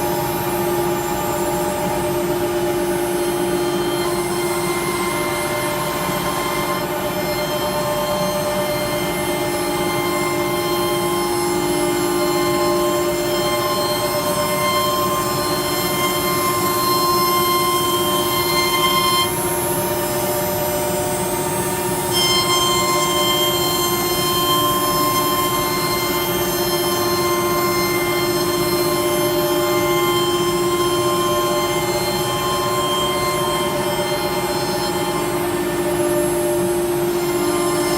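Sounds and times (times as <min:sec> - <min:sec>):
cnc router machine whine: 0:00.0 - 0:37.9.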